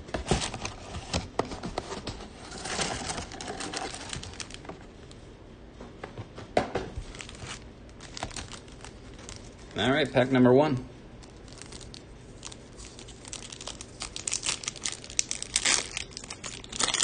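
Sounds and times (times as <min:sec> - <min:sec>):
foil packs crinkling: 0:00.2 - 0:04.9, 0:07.0 - 0:10.3, 0:11.2 - 0:17.0.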